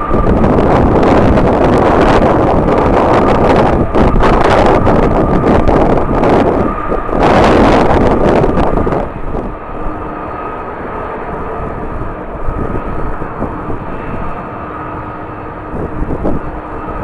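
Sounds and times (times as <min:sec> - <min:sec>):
jet engines whining: 0:00.0 - 0:17.0
rushing noise: 0:00.0 - 0:17.0
wind gust on microphone: 0:00.0 - 0:17.0.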